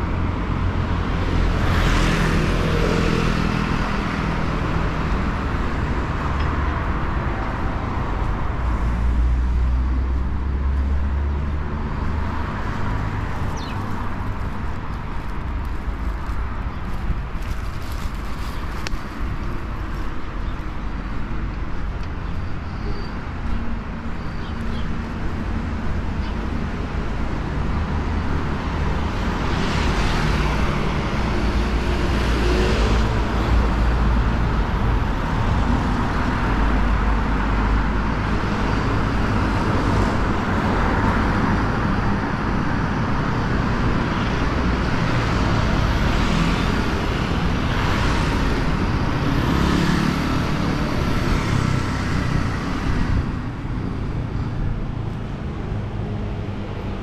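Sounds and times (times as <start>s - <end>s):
traffic rumble: 0.0s - 57.0s
vehicles passing by: 0.0s - 57.0s.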